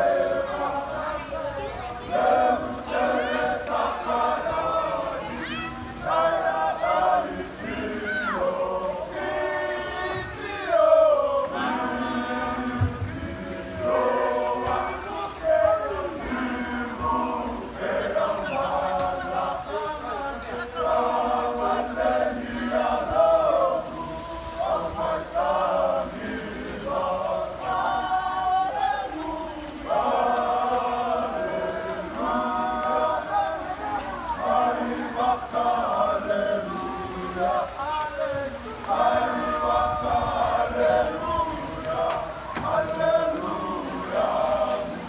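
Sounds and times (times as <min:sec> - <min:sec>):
group singing in chorus: 0:00.0 - 0:45.0.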